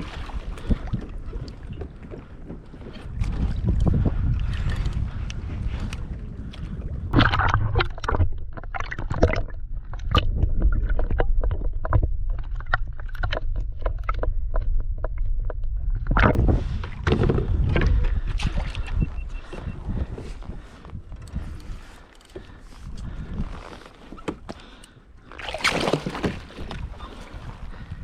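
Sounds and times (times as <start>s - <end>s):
water sloshing around a kayak: 0.0s - 14.7s, 16.2s - 28.0s
wind rumble on microphone: 0.0s - 24.8s, 25.9s - 28.0s.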